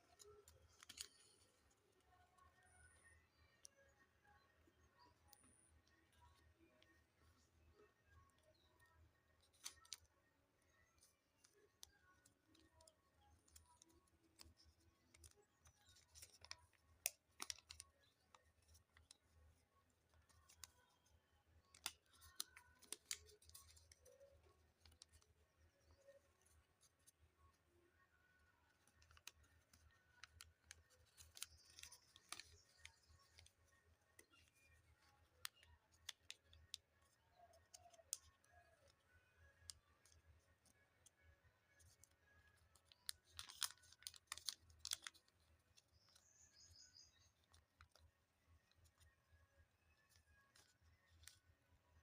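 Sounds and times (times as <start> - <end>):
paper crinkling and folding: 0.1 - 2.6, 9.4 - 27.3, 28.6 - 39.0, 39.6 - 49.1, 49.7 - 51.7.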